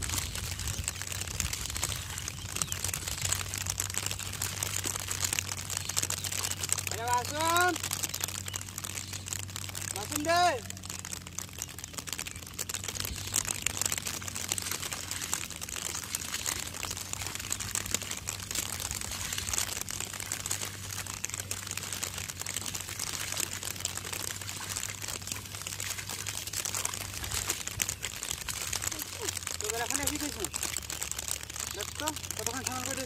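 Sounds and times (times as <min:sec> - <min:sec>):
wet mud crackling: 0:00.0 - 0:33.0.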